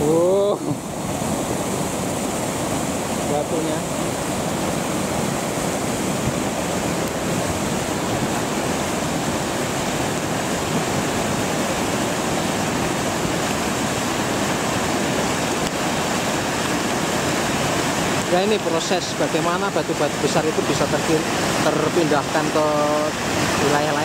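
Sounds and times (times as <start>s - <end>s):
mudflow with boulders rumbling: 0.0s - 24.0s.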